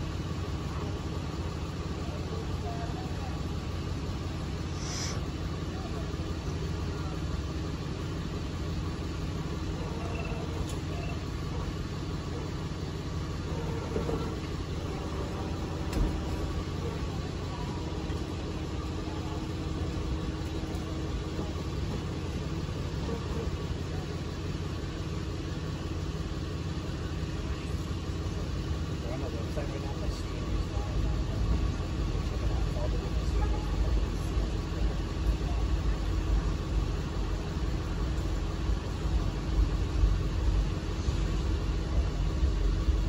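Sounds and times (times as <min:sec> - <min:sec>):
street noise: 0:00.0 - 0:43.0
vehicle engine idling: 0:00.0 - 0:43.0.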